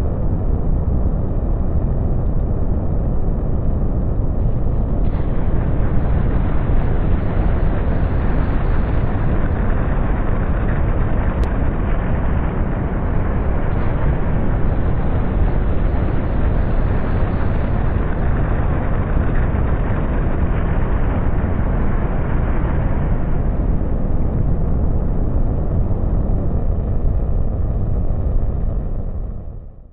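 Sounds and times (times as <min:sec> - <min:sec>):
rocket engine roar: 0:00.0 - 0:29.9.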